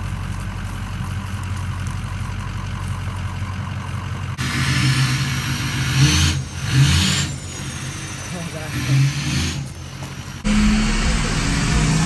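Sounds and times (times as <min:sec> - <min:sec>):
diesel engine running with hiss: 0:00.0 - 0:12.0
diesel truck engine idling: 0:00.0 - 0:12.0.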